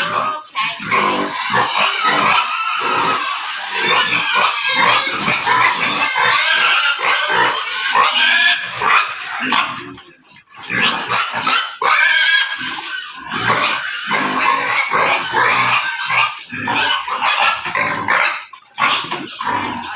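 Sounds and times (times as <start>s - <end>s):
pigs squealing and grunting: 0.0s - 19.9s.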